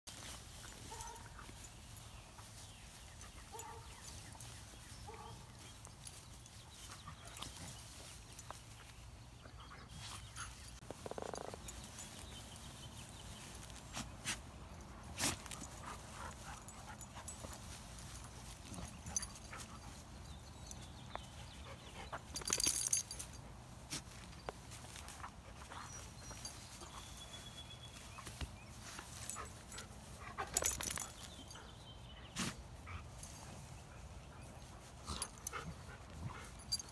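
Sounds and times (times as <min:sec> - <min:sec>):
rustling in grass: 0:00.1 - 0:36.9.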